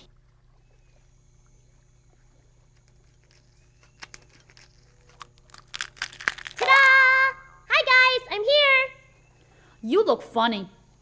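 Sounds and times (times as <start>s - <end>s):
low steady room hum: 0.0s - 11.0s.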